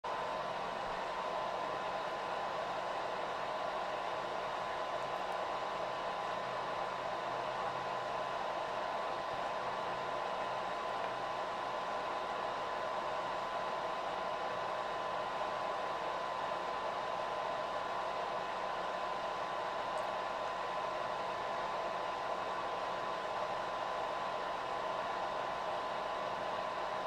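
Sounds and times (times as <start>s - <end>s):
projector cooling fan whirring: 0.0s - 27.0s.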